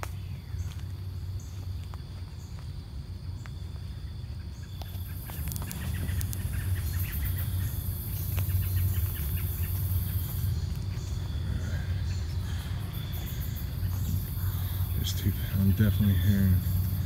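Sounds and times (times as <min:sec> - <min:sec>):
footsteps crunching dry leaves: 0:00.0 - 0:17.0
steady low drone: 0:02.9 - 0:17.0.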